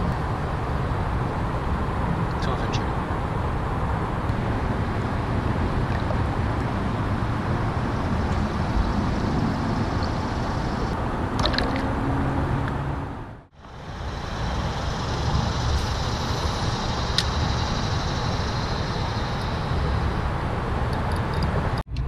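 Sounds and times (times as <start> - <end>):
wind buffeting microphone: 0.0 - 21.8.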